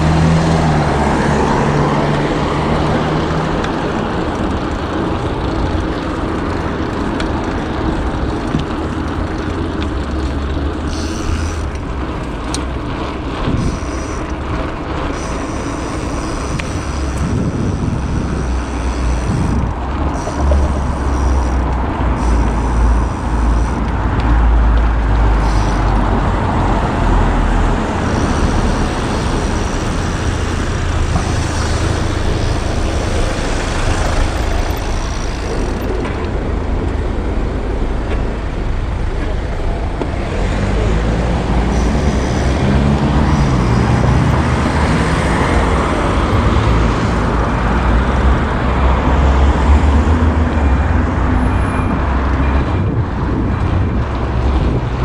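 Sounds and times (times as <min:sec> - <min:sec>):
car and bus traffic: 0:00.0 - 0:55.0.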